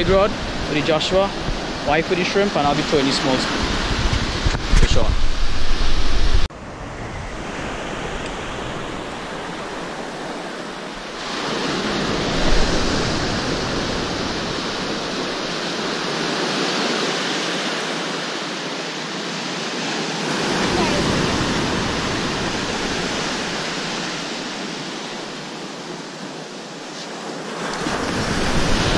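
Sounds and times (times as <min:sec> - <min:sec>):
ocean waves rushing: 0:00.0 - 0:28.9.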